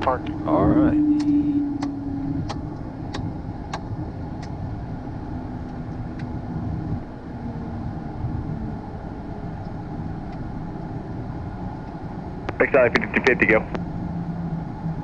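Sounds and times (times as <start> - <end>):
jet engines idling rumble: 0.0 - 15.0.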